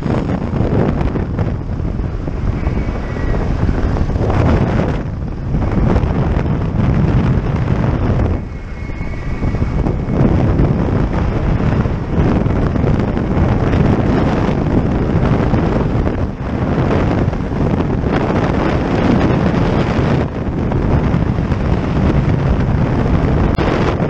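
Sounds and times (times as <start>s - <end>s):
aircraft engine running: 0.0s - 24.0s
wind buffeting microphone: 0.0s - 24.0s.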